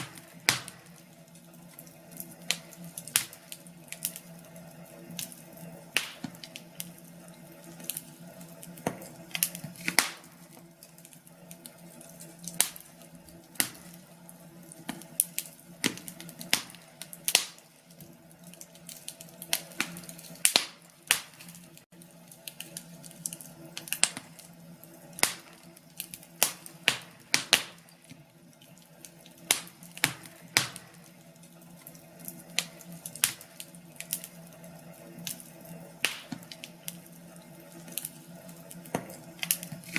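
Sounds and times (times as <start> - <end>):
log fire crackling: 0.0 - 39.9
low hum of burning: 0.0 - 39.9.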